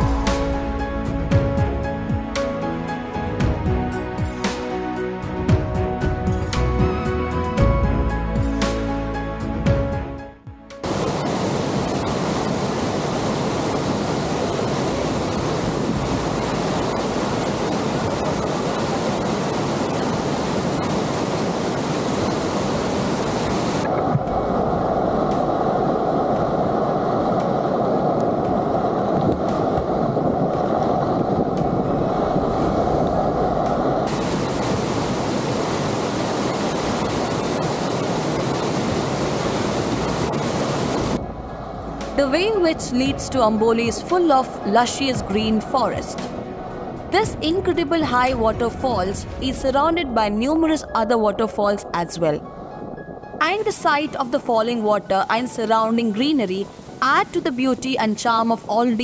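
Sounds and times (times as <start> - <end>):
waterfall roaring: 10.8 - 52.6, 53.4 - 59.0.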